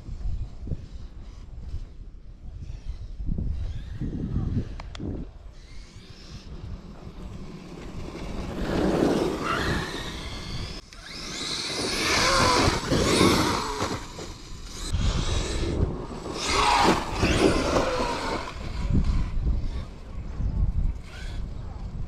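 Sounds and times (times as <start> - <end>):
wind buffeting microphone: 0.0 - 22.0
rc car motor whining: 0.3 - 22.0.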